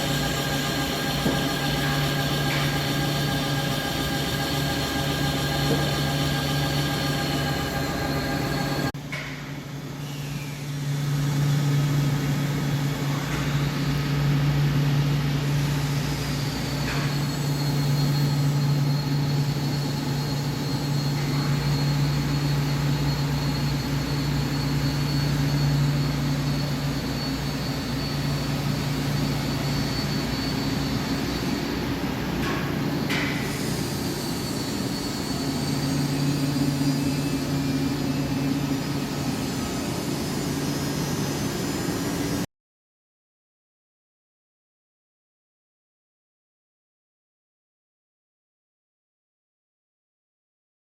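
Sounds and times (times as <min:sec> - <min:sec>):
lathe hum with high whine: 0:00.0 - 0:42.5.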